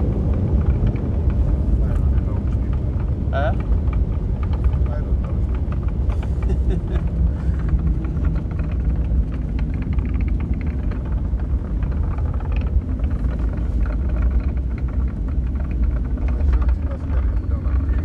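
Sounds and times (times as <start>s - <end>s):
faint cabin rattles: 0.0s - 18.0s
jet rolling on runway rumble: 0.0s - 18.0s.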